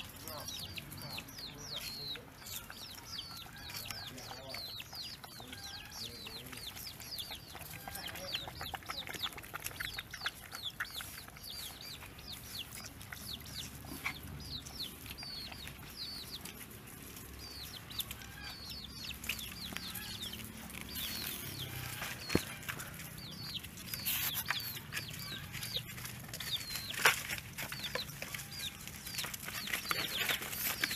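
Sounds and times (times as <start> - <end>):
small animals peeping: 0.0 - 30.9.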